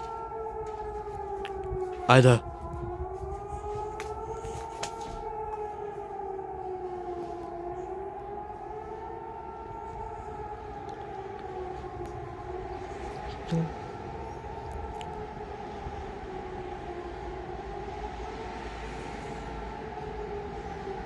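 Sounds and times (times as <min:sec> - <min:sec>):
two-tone civil defence siren: 0:00.0 - 0:21.0.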